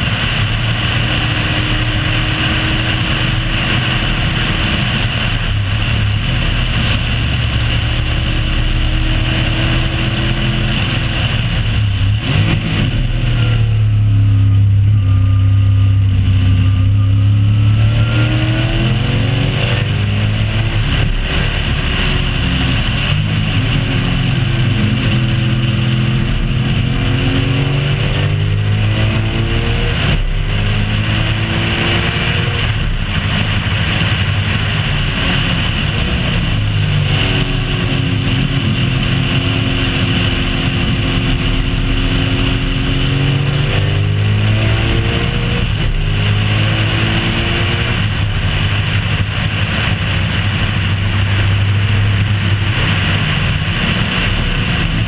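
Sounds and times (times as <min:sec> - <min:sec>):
race car engine: 0:00.0 - 0:55.0
wind and road noise: 0:00.0 - 0:55.0.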